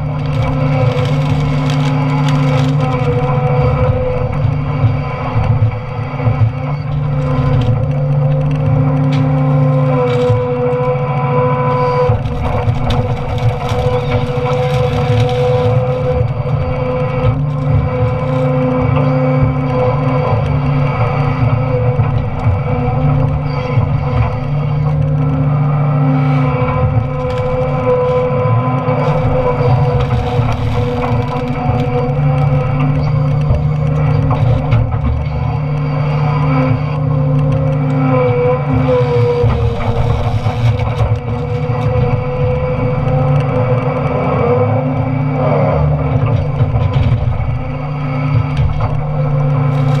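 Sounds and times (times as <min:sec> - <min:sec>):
wood cracking: 0:00.0 - 0:45.1, 0:45.8 - 0:50.0
excavator diesel engine running: 0:00.0 - 0:50.0.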